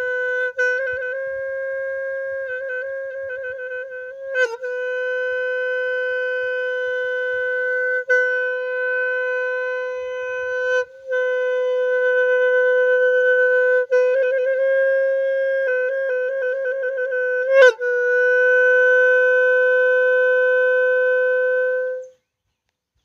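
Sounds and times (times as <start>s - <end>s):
horn blown in long notes: 0.0s - 22.1s.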